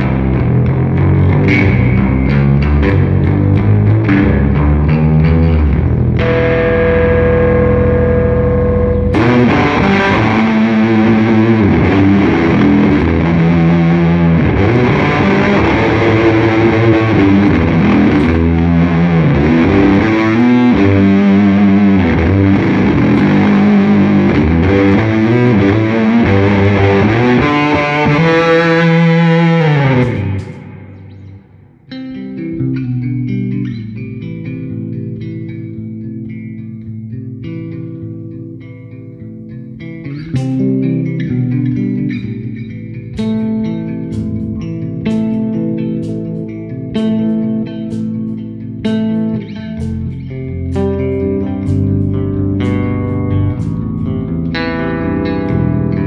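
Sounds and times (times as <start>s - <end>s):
baritone bass guitar playing: 0.0s - 56.0s.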